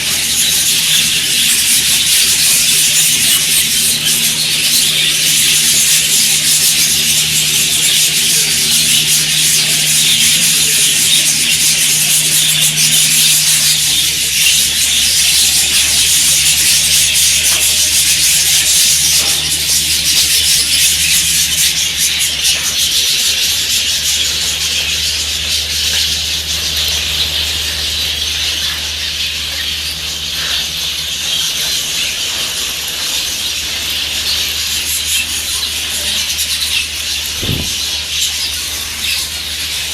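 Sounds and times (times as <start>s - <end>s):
flock of budgerigars chattering: 0.0s - 39.9s.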